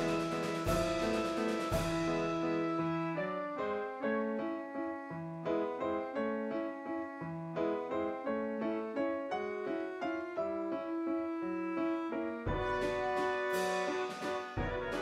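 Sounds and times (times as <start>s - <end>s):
calm piano notes: 0.0s - 15.0s.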